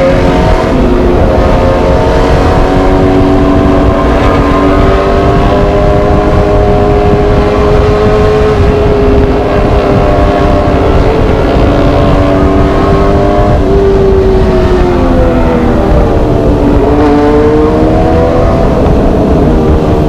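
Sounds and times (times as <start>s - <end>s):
motorcycle engine cruising: 0.0s - 20.0s
wind buffeting microphone: 0.0s - 20.0s.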